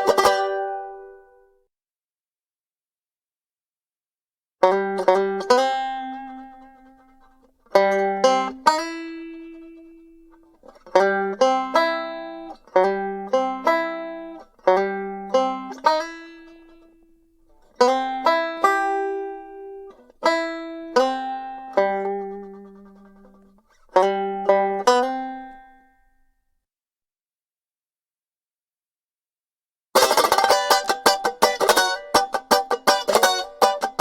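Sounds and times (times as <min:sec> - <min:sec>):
banjo plucked: 0:00.0 - 0:01.6, 0:04.6 - 0:26.2, 0:30.0 - 0:34.0.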